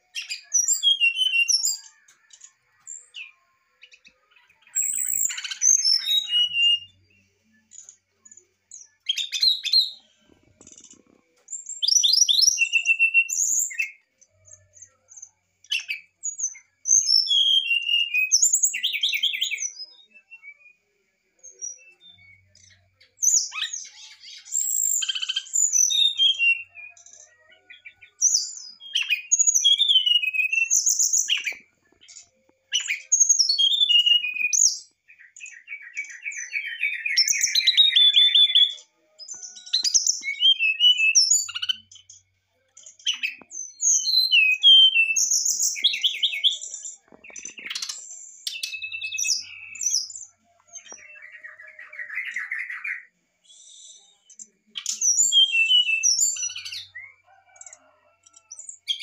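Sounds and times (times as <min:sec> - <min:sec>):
bird singing whistles and trills: 0:00.0 - 0:10.1, 0:11.5 - 0:14.0, 0:14.8 - 0:42.2, 0:42.8 - 0:59.0.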